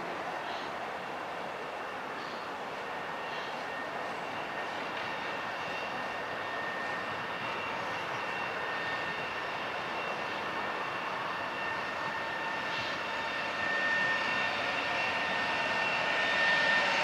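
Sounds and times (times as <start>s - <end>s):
electric locomotive running: 0.0s - 17.0s.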